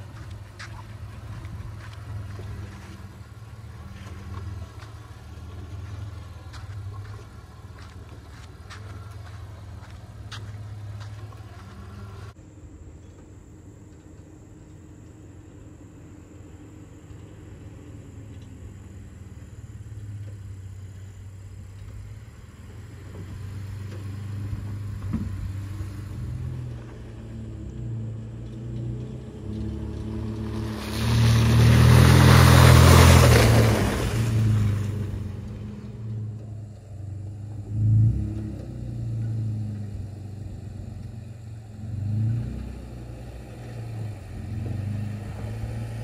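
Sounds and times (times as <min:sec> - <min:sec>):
distant engine hum: 0:00.0 - 0:46.0
truck engine humming: 0:00.0 - 0:46.0.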